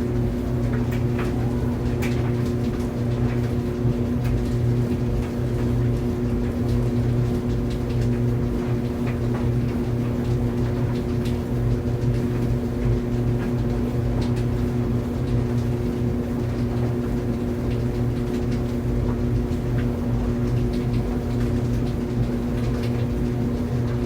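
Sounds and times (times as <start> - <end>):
laundry dryer humming: 0.0 - 24.0.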